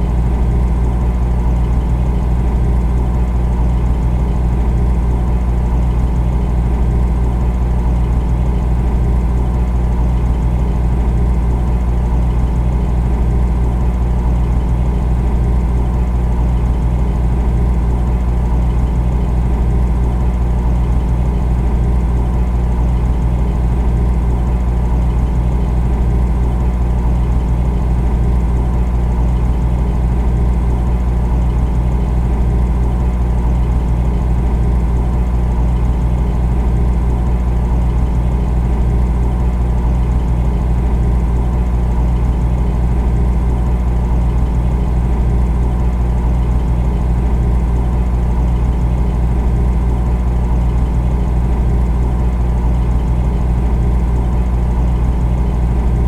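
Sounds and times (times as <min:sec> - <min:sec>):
refrigerator humming: 0:00.0 - 0:56.0.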